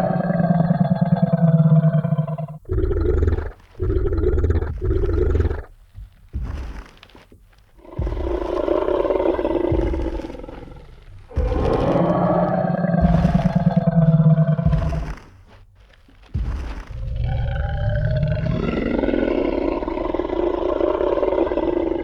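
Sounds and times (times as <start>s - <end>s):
dinosaur roaring: 0.0s - 5.7s, 7.8s - 15.2s, 17.0s - 22.0s.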